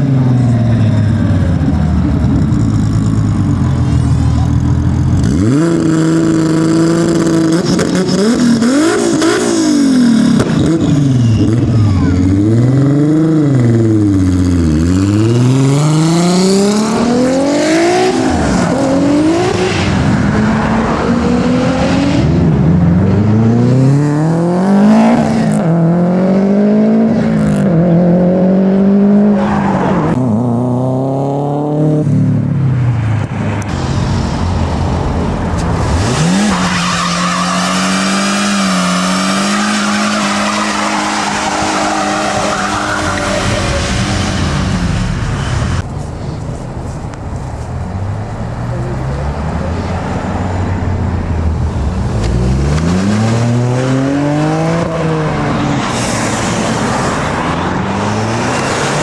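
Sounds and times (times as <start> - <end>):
car engine accelerating hard: 0.0 - 32.4, 33.1 - 59.0.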